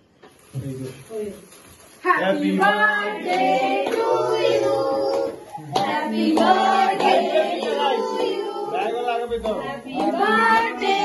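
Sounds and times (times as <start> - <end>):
voices singing: 2.0 - 11.0.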